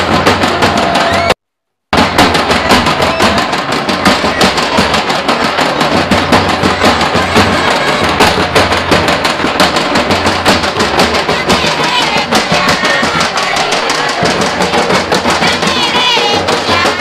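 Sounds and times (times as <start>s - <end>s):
fast steady drum beat: 0.0s - 17.0s
folk dance music: 0.0s - 17.0s.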